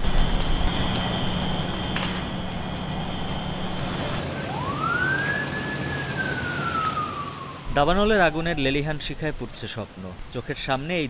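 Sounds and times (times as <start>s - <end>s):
emergency vehicle siren wailing: 0.0s - 9.2s
low hum: 0.0s - 9.5s
broad rushing noise: 0.0s - 11.0s.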